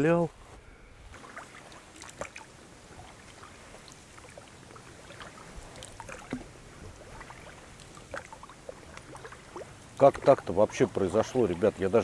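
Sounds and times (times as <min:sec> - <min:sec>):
oars splashing in water: 0:01.0 - 0:12.0
water trickling and dripping: 0:01.1 - 0:12.0.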